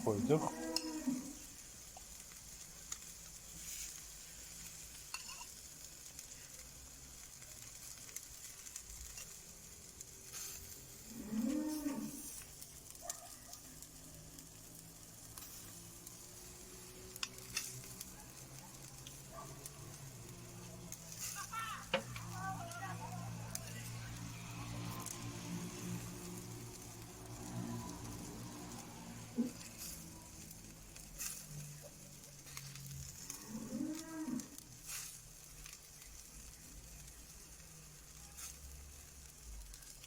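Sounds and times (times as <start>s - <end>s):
tomatoes sizzling on a grill: 0.0s - 40.0s
wood fire crackling: 0.0s - 40.0s.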